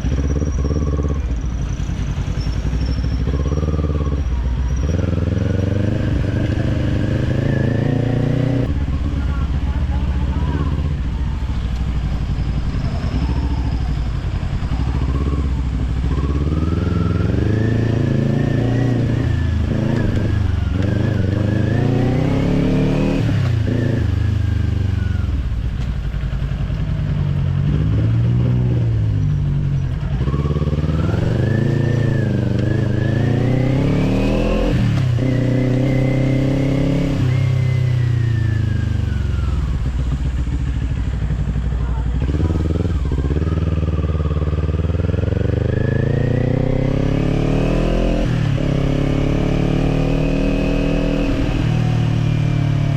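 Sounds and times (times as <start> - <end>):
motorcycle accelerating through gears: 0.0 - 52.9.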